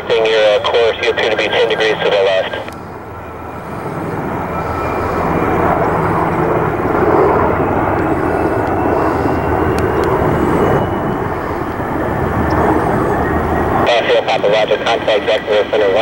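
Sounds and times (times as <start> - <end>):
helicopter rotors: 0.0 - 16.0
turboprop aircraft drone: 0.0 - 16.0.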